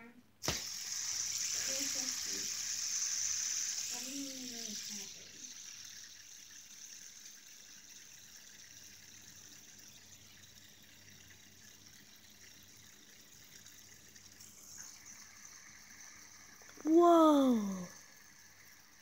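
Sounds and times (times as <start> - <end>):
fidget spinner whirring: 0.4 - 19.0.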